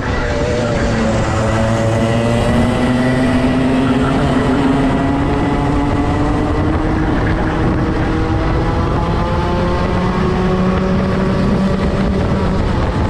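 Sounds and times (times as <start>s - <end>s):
constant rushing noise: 0.0s - 13.0s
race kart engine at high revs: 0.0s - 13.0s.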